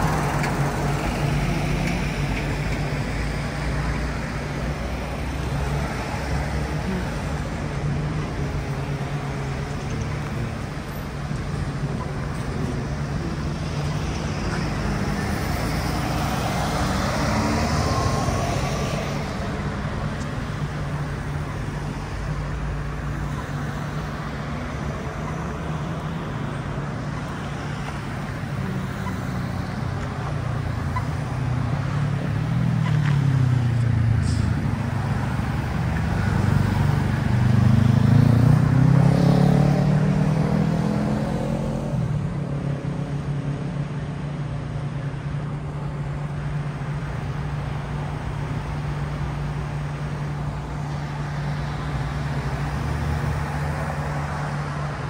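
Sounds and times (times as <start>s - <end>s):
bus driving past: 0.0s - 55.0s
cars driving past: 0.0s - 55.0s.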